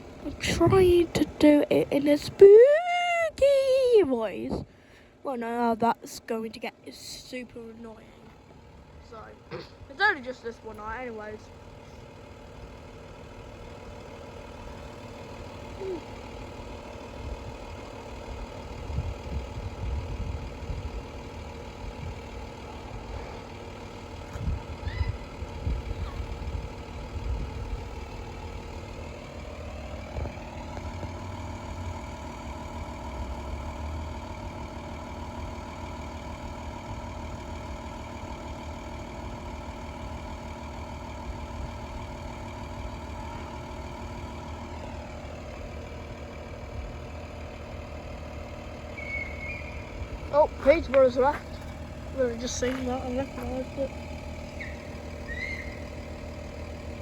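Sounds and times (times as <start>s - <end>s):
engine idling hum: 0.0s - 57.0s.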